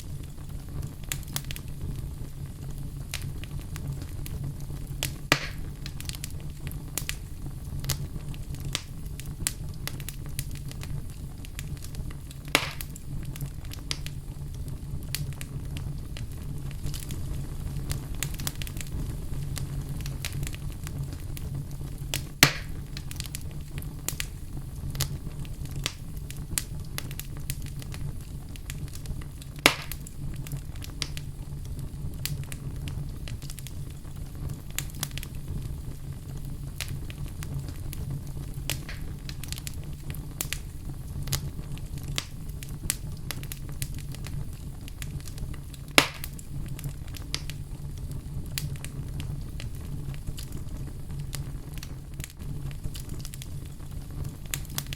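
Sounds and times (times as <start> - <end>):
loud fire pops: 0.0 - 54.9
wood fire crackling: 0.0 - 54.9.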